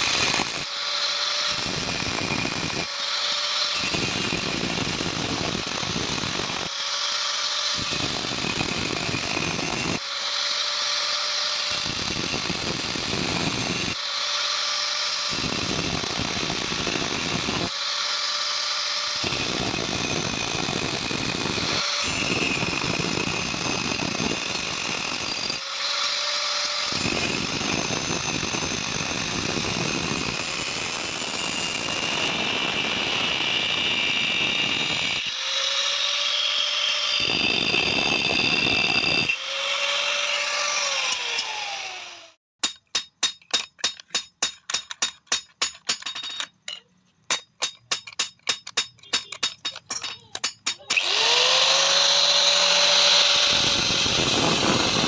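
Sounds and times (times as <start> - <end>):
angle grinder cutting metal: 0.0 - 55.0.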